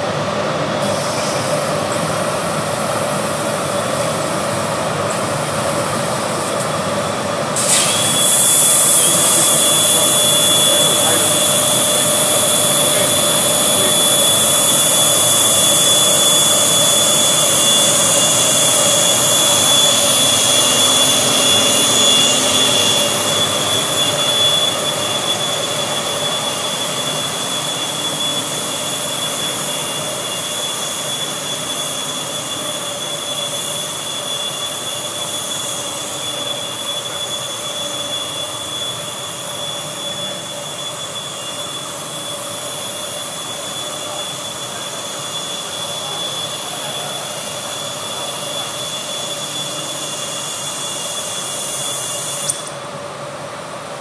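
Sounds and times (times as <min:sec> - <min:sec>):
plasma cutter hissing and whining: 0:00.8 - 0:53.3.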